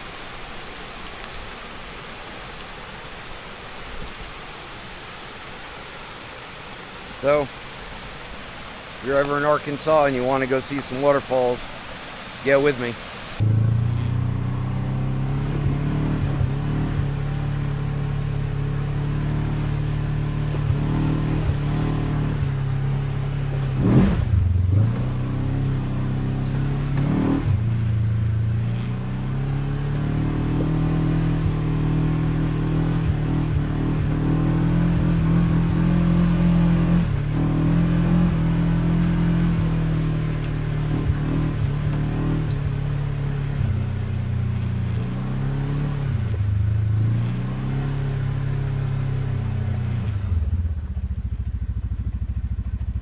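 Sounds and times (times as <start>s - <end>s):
off-road vehicle engine running: 4.1s - 53.0s.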